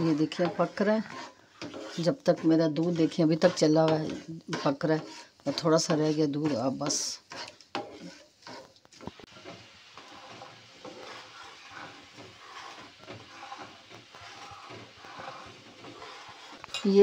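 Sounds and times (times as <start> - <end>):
syrup boiling and bubbling: 0.0 - 16.8
spatula scraping a pan: 0.0 - 17.0.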